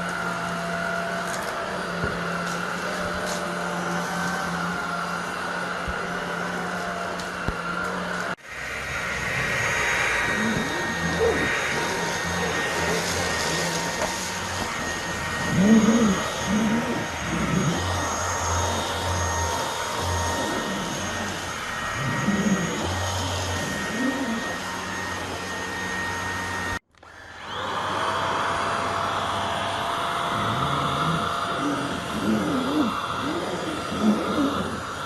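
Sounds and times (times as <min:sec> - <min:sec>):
cordless vacuum whining: 0:00.0 - 0:35.0.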